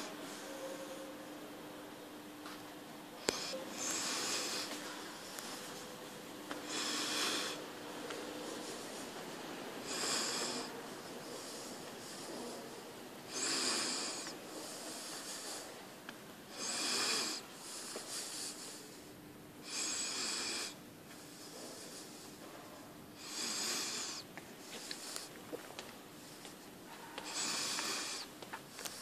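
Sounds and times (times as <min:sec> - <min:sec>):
hissing breaths: 0:03.2 - 0:05.8, 0:06.5 - 0:22.6, 0:23.2 - 0:29.0.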